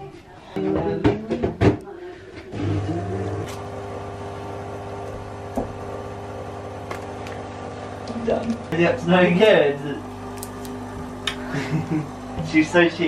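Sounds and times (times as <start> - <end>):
microwave oven humming: 2.1 - 13.0.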